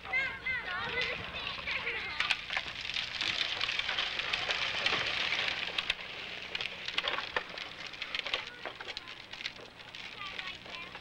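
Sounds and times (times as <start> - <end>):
plastic wheels rolling on concrete: 0.0 - 11.0.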